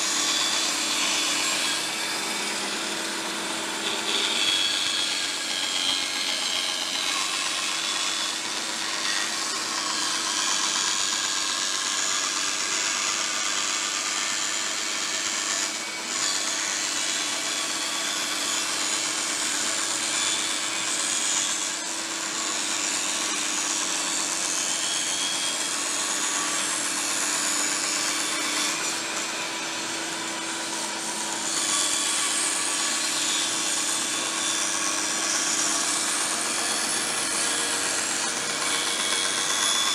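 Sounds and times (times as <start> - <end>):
bandsaw motor hum: 0.0 - 39.9.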